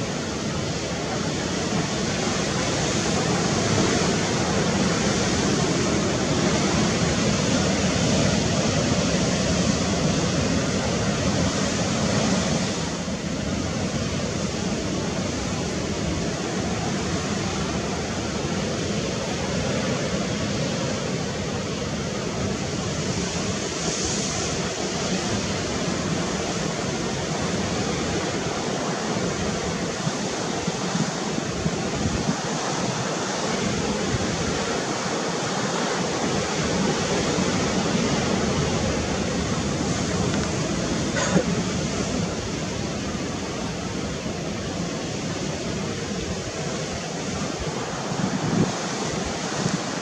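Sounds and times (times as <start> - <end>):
sea rushing: 0.0 - 50.0
wind: 0.0 - 50.0.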